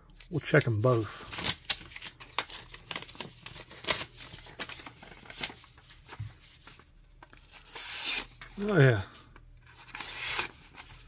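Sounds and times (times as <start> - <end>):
paper rustling and crackling: 0.2 - 8.9, 9.6 - 11.0.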